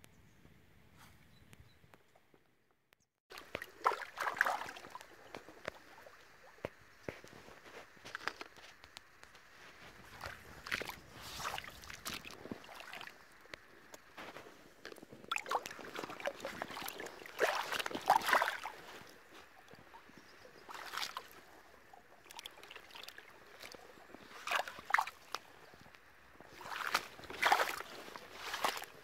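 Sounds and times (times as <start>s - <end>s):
water sloshing and splashing: 3.3s - 29.0s.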